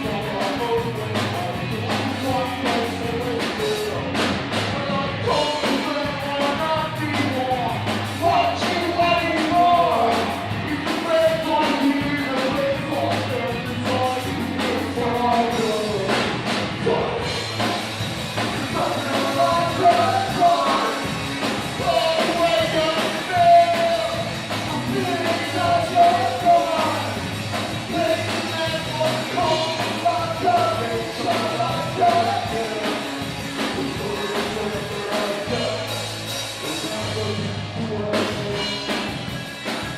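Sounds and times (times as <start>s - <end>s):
person singing: 0.0s - 17.8s, 18.5s - 27.2s, 27.8s - 39.0s
bass guitar: 0.0s - 39.9s
drums: 0.0s - 39.9s
guitar: 0.0s - 39.9s.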